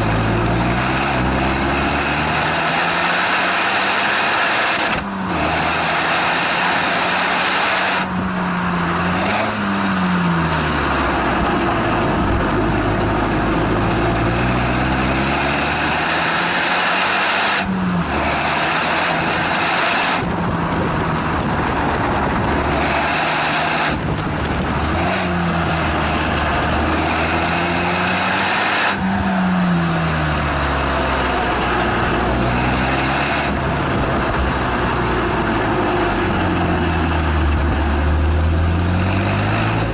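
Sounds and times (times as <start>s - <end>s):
car engine exhaust revving: 0.0s - 39.9s
loud rushing noise: 0.0s - 39.9s.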